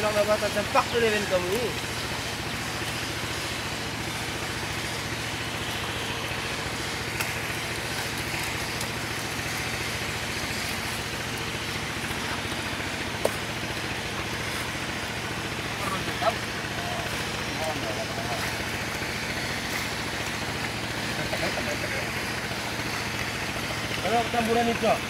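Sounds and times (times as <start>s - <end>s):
small engine running: 0.0s - 25.0s
water noise: 0.0s - 25.0s.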